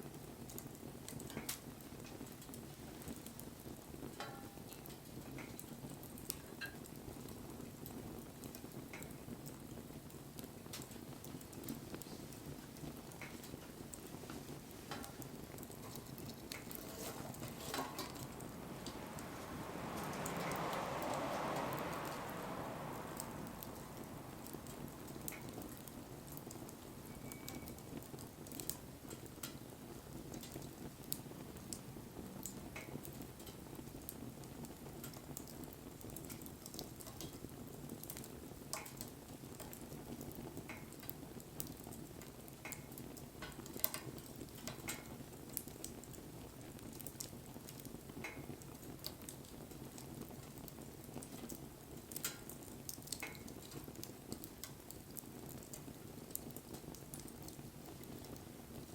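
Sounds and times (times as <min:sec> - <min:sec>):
campfire crackling and popping: 0:00.0 - 0:58.9
low rumble of flame: 0:00.0 - 0:58.9.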